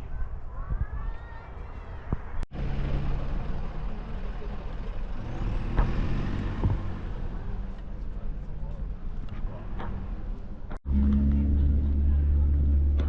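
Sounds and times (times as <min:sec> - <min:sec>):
vehicle engine rumbling: 0:02.0 - 0:13.0.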